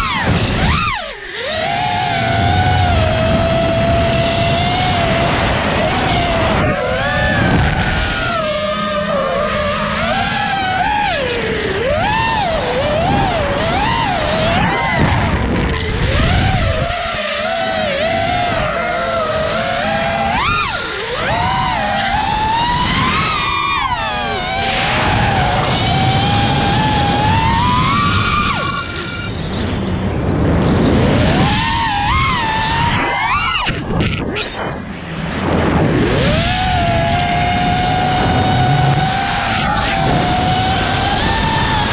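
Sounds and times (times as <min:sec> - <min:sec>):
drone motors whining: 0:00.0 - 0:41.9
wind rumble on microphone: 0:00.0 - 0:41.9.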